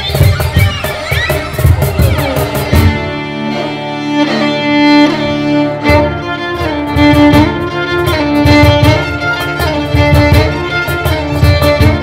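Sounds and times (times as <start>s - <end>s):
cajon beating rhythm: 0.0s - 12.0s
string ensemble playing: 0.0s - 12.0s.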